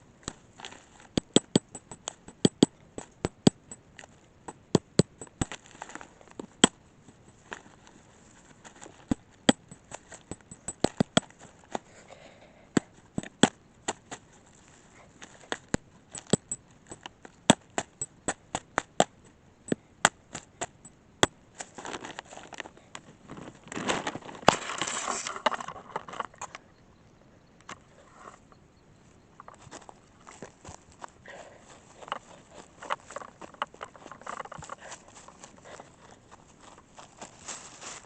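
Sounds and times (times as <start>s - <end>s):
rustling and crunching: 0.0s - 26.6s, 27.8s - 38.0s.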